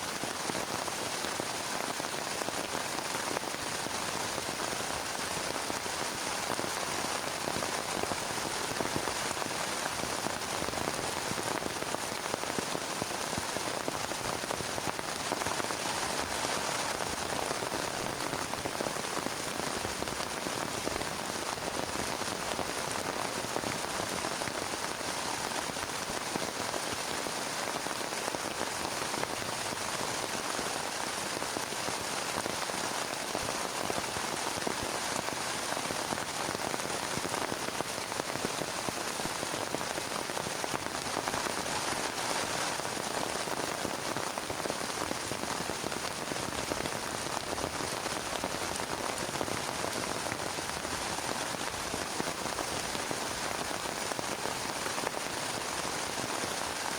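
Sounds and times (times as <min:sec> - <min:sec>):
heavy rain on plastic tarp: 0:00.0 - 0:56.9.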